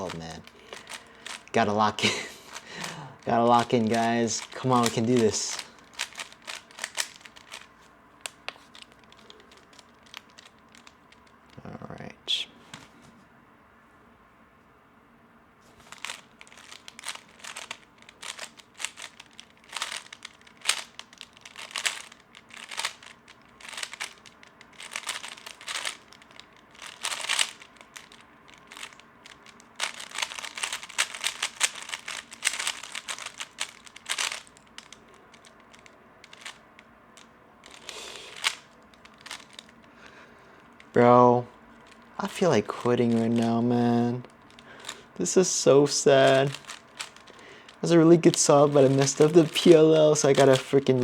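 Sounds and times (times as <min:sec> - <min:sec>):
speedcube plastic clicking: 0:00.0 - 0:11.6, 0:15.9 - 0:40.0, 0:41.8 - 0:51.0.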